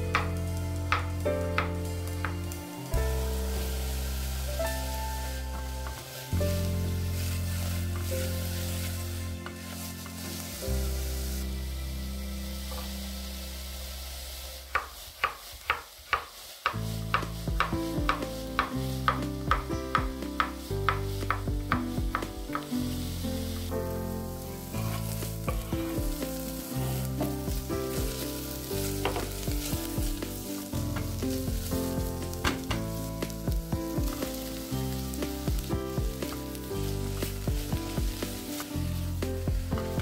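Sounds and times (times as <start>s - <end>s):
music: 0.0s - 15.3s, 16.6s - 40.0s
vegetables sizzling in oil: 0.0s - 40.0s.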